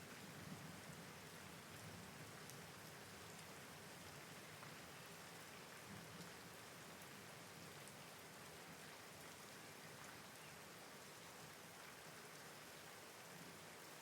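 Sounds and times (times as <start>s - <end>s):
raindrops ticking: 0.0s - 12.5s
soft steady rain: 0.0s - 14.0s.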